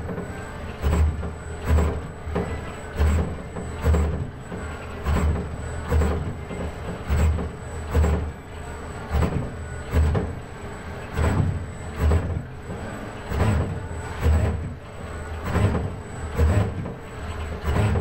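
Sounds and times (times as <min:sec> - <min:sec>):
robot arm motors whirring: 0:00.0 - 0:18.0.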